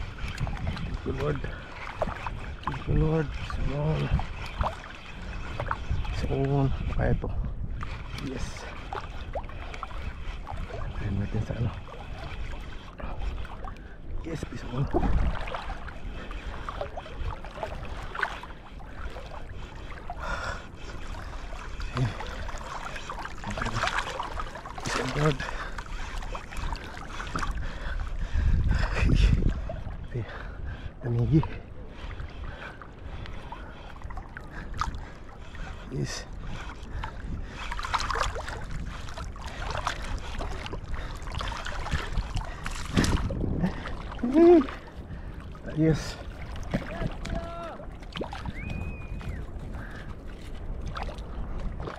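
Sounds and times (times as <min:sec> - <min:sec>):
sea water sloshing: 0:00.0 - 0:51.9
wind rumbling on microphone: 0:00.0 - 0:51.9.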